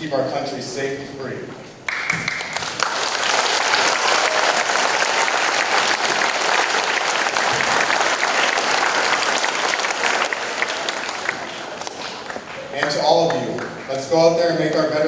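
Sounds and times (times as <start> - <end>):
large audience applauding: 1.9 - 14.9.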